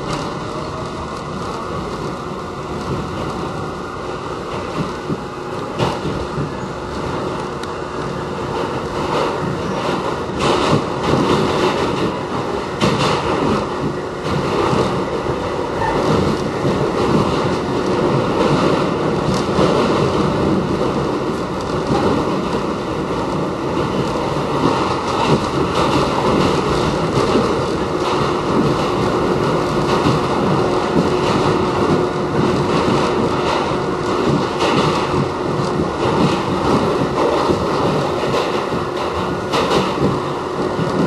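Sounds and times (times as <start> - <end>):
subway wheels rumbling on rail: 0.0 - 41.0.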